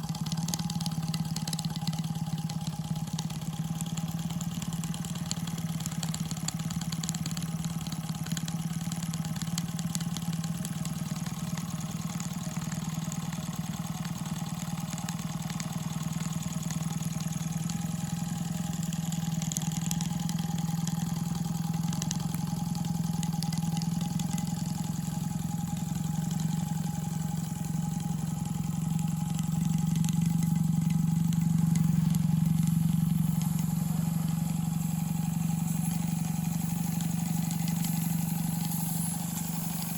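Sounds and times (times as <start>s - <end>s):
model steam engine running: 0.0s - 39.9s.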